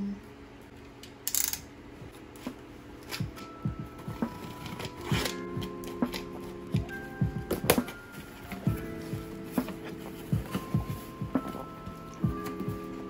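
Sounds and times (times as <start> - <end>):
soft background music: 1.7 - 13.0.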